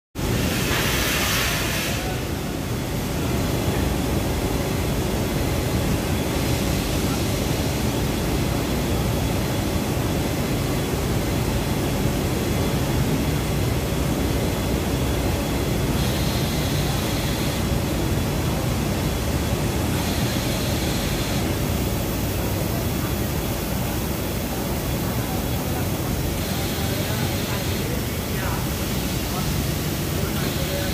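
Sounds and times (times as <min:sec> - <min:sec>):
machinery rumble and hum: 0:00.2 - 0:30.9.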